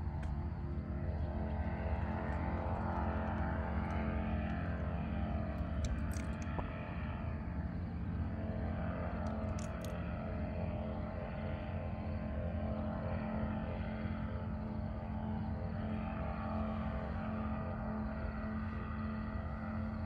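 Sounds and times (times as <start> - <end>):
paramotor engine droning: 0.0 - 20.0.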